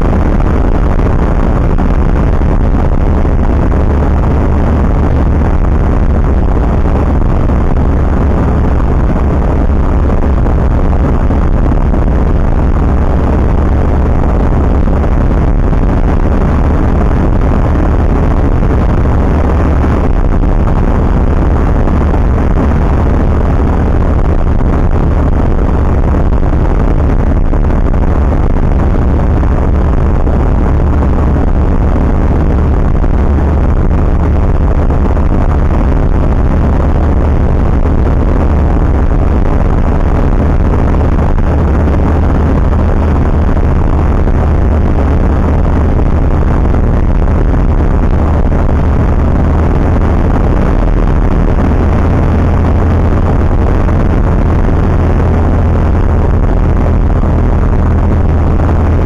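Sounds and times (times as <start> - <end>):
rushing air noise: 0.0 - 59.0.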